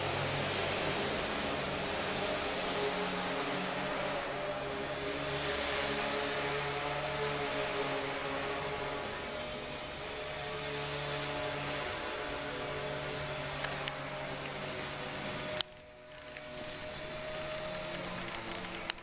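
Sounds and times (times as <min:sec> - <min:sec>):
model plane motor buzzing: 0:00.0 - 0:19.0.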